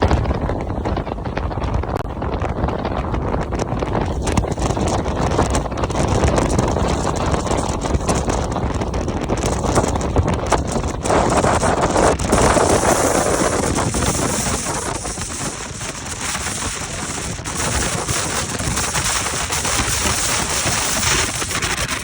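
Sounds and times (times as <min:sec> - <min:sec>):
rapid crackling rattle: 0:00.0 - 0:22.0
strong wind buffeting microphone: 0:00.0 - 0:22.0.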